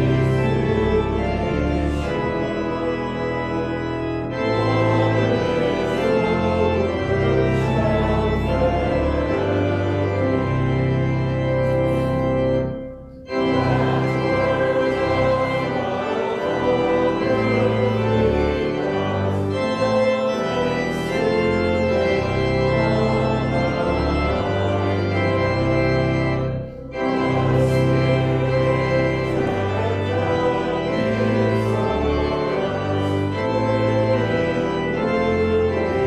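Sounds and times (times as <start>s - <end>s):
church organ playing chords: 0.0s - 36.0s.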